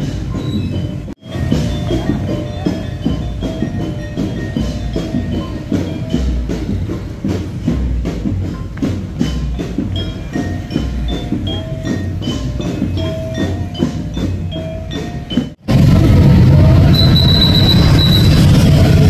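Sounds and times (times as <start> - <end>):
metal mallet percussion notes: 0.0 - 15.6
drum beat: 0.0 - 18.0
dense street noise: 0.0 - 19.0.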